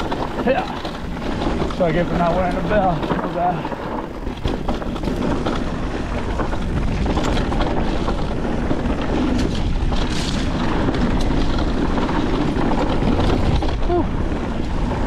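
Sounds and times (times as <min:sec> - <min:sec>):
bike clicking and rattling: 0:00.0 - 0:15.0
tyres rolling over dirt and rock: 0:00.0 - 0:15.0
wind buffeting microphone: 0:00.0 - 0:15.0.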